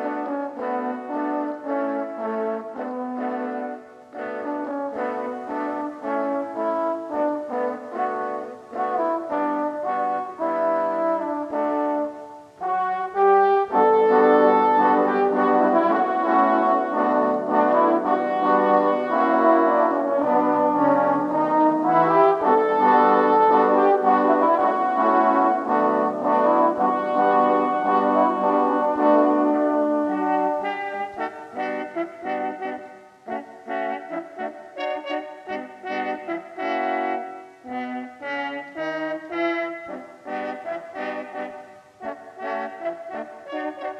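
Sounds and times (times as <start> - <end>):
french horns playing in harmony: 0.0 - 43.9.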